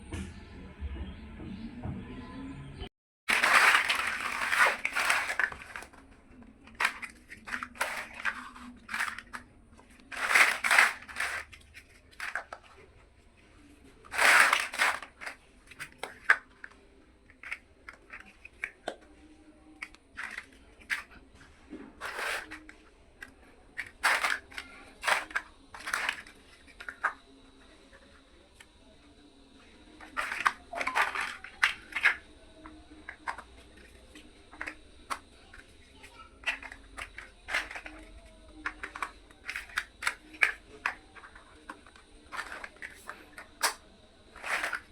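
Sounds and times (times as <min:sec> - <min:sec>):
plastic blocks clicking: 0:03.3 - 0:12.9, 0:14.0 - 0:21.2, 0:22.0 - 0:28.7, 0:29.9 - 0:44.9
rustling and crunching handling: 0:03.3 - 0:44.9.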